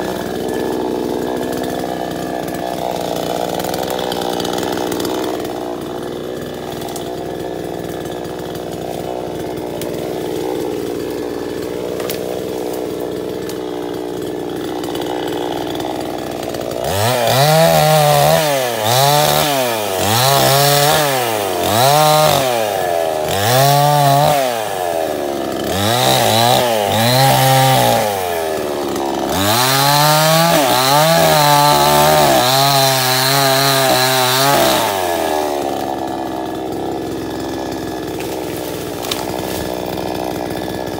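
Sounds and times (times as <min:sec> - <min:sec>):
chainsaw idling and revving: 0:00.0 - 0:40.9.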